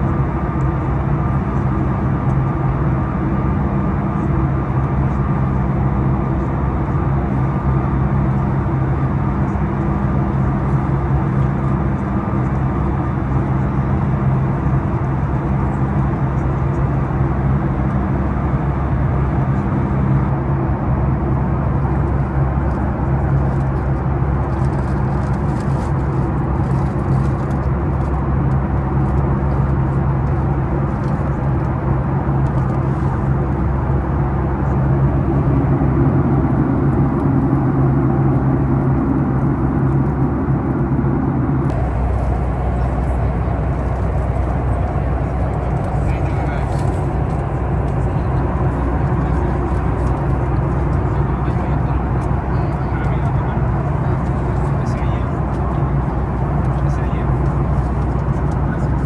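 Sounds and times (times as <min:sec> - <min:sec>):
airplane cabin drone: 0:00.0 - 0:59.0.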